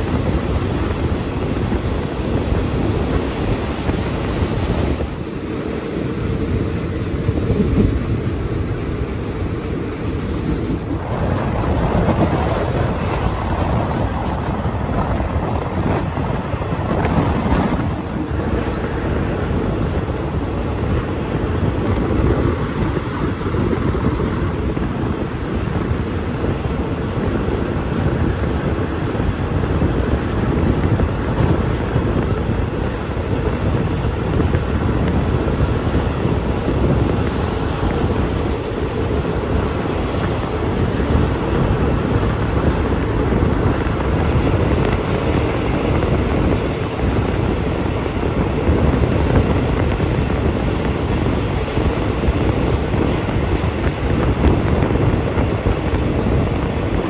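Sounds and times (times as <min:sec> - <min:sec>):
moving train rumble: 0:00.0 - 0:57.0
wind rushing over microphone: 0:00.0 - 0:57.0.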